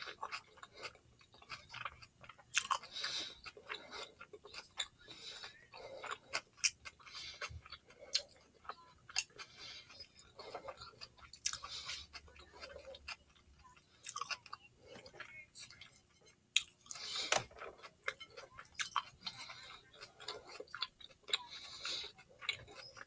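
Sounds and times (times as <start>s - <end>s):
person chewing: 0.0s - 23.0s.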